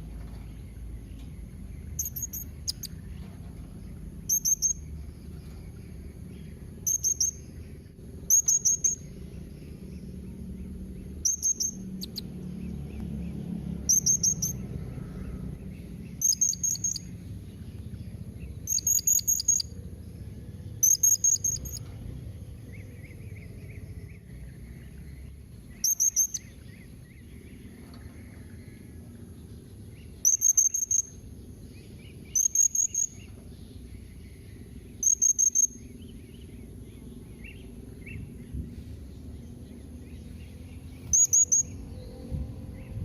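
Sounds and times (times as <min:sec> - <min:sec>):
soft bird twittering: 0:00.0 - 0:43.0.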